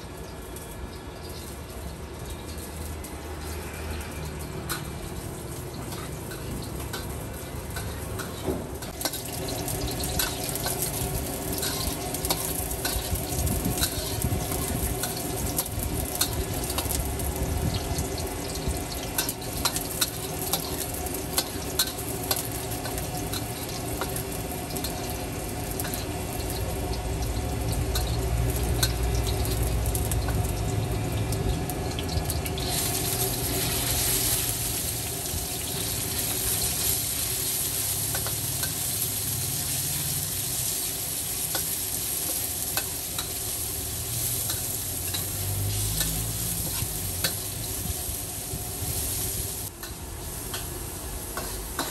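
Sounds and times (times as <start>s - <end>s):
food sizzling in a wok: 0.0s - 51.9s.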